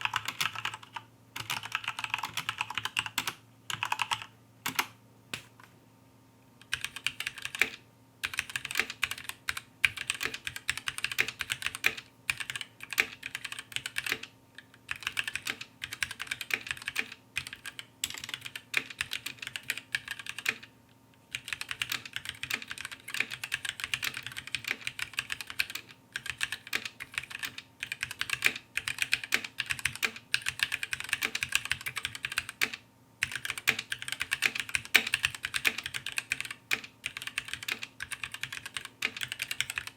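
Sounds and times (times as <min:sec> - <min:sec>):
mechanical keyboard typing: 0:00.0 - 0:05.5, 0:06.6 - 0:20.7, 0:21.3 - 0:39.9.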